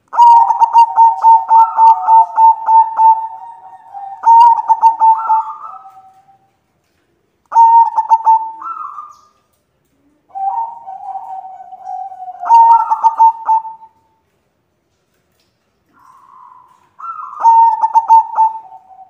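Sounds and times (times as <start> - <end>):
dove cooing: 0.0 - 6.5, 7.5 - 9.3, 9.9 - 14.0, 15.9 - 19.0.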